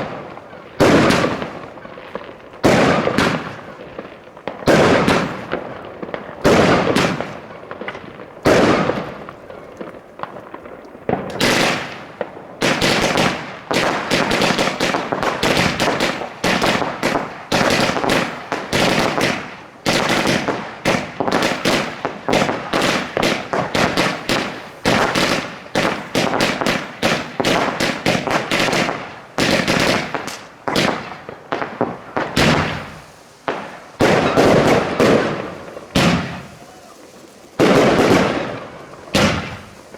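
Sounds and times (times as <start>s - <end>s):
fireworks crackling bangs: 0.0s - 39.9s.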